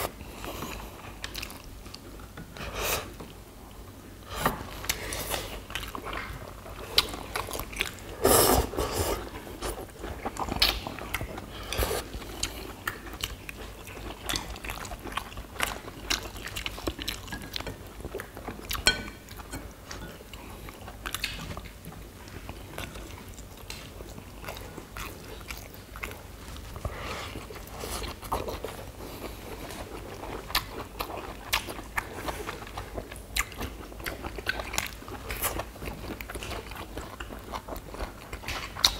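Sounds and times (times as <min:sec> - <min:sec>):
people chewing and crunching: 0:00.0 - 0:03.4, 0:04.2 - 0:38.9.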